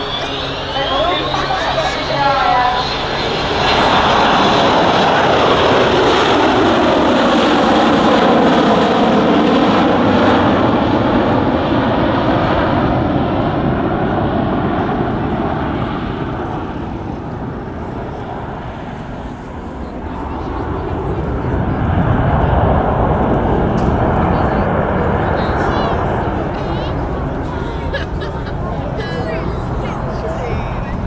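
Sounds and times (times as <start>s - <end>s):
jet airliner passing low: 0.0s - 31.0s.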